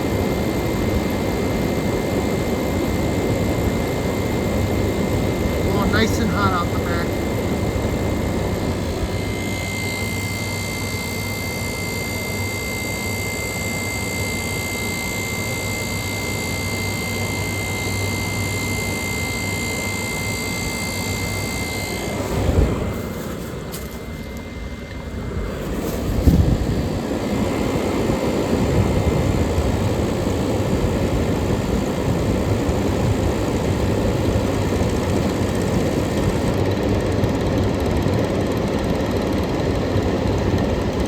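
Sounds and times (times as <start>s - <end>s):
air conditioner humming: 0.0s - 36.6s
thin high whine: 0.0s - 36.8s.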